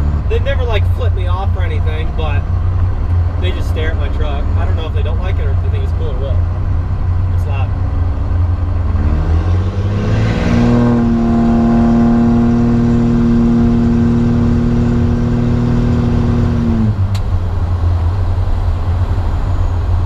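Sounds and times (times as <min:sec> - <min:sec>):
diesel engine accelerating: 0:00.0 - 0:20.0.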